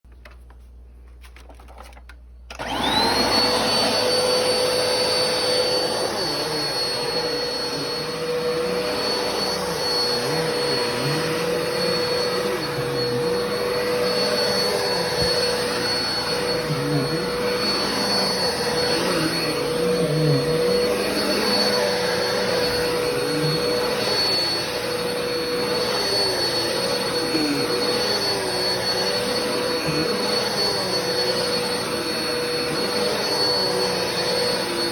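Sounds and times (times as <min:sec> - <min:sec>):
vacuum cleaner whining: 0:02.5 - 0:34.9.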